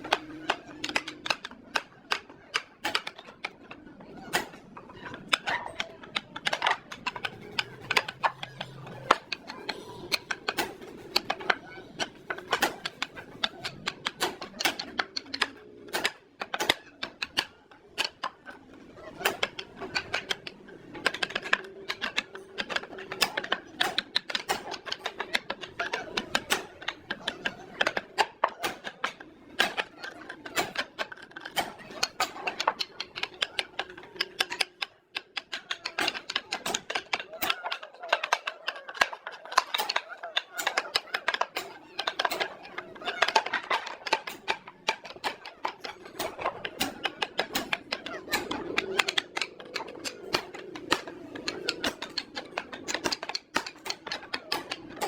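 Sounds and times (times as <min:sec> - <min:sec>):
hand tools tapping wood: 0:00.0 - 0:18.6, 0:19.2 - 0:55.0.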